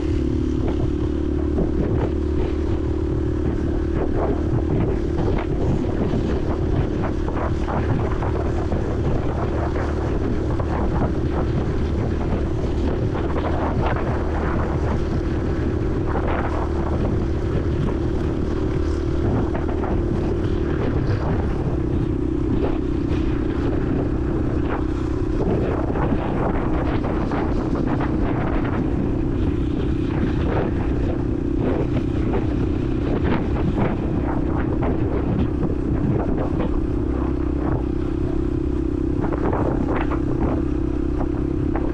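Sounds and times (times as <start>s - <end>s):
motorcycle engine running: 0.0s - 41.9s
wind on microphone: 0.0s - 41.9s.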